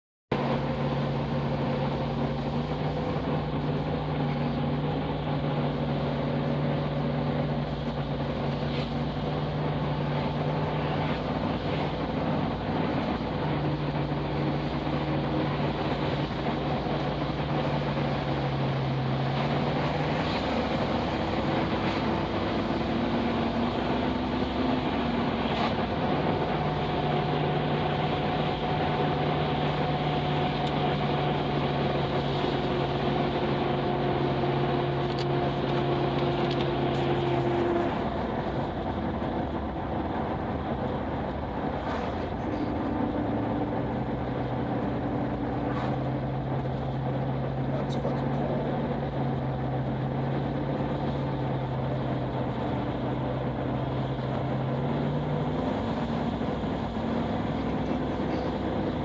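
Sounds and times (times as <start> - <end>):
car engine cruising: 0.3 - 59.0
road and wind noise: 0.3 - 59.0.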